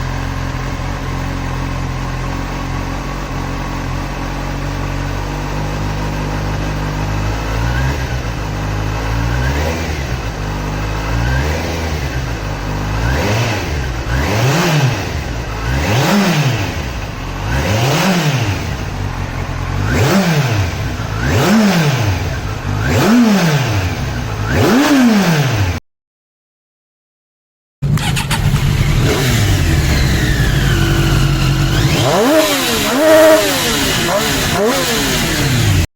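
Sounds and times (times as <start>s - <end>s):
motorcycle engine revving: 0.0s - 25.8s, 27.8s - 35.9s.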